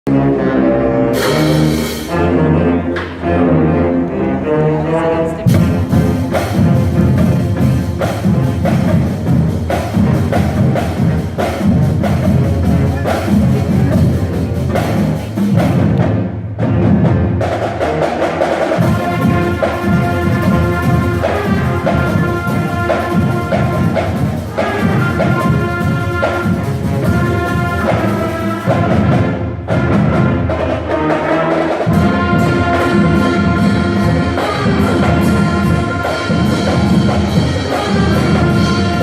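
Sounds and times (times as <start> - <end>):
held brass chords: 0.1 - 39.0
marching band playing: 0.1 - 39.0
drums keeping a steady beat: 1.2 - 3.2, 5.3 - 39.0.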